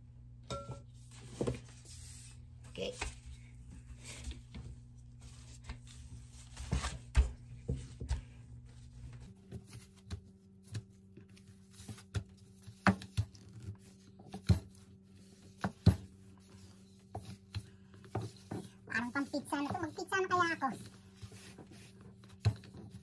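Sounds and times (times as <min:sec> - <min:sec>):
hands patting dough: 0:04.4 - 0:23.0.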